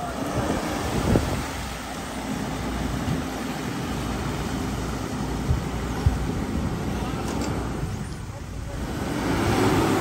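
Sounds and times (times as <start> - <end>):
engines running: 0.0 - 10.0
vehicle moving through watery mud: 0.0 - 10.0.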